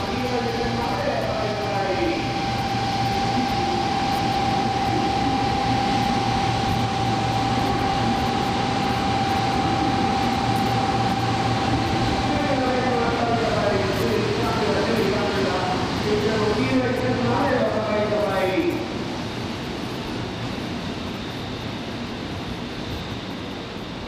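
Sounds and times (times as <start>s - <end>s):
train humming at platform: 0.0s - 24.0s.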